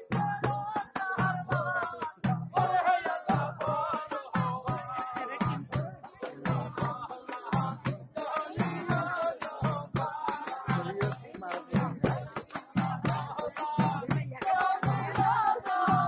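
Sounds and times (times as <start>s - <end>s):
drum beat: 0.0s - 16.0s
jingling percussion: 0.0s - 16.0s
person singing folk song: 0.0s - 16.0s.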